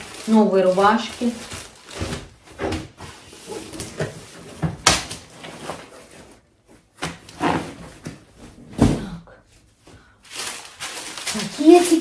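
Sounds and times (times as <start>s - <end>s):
rustling: 0.0s - 8.8s, 9.9s - 12.0s.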